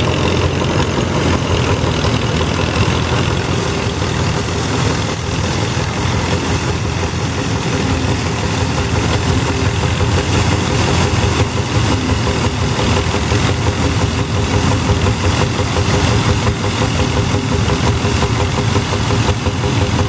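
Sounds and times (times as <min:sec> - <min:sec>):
combine threshing machinery: 0:00.0 - 0:20.0
engine running steadily: 0:00.0 - 0:20.0
tractor engine: 0:00.0 - 0:20.0.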